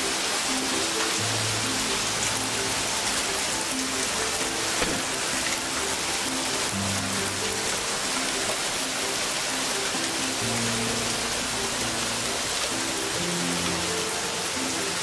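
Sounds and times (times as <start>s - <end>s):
hail pelting pavement: 0.0s - 15.0s
soft background music: 0.0s - 15.0s.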